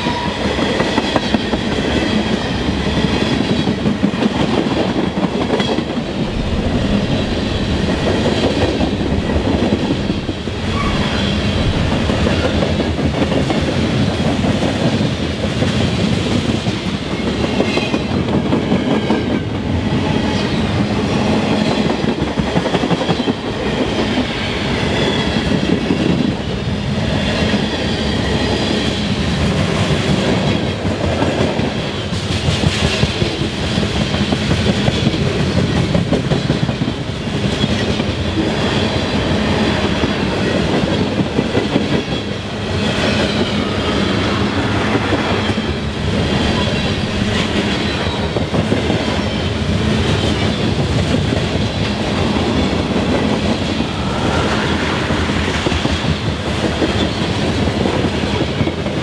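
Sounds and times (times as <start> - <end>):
clickety-clack over rail joints: 0.0 - 59.0
steel wheels rumbling on rail: 0.0 - 59.0.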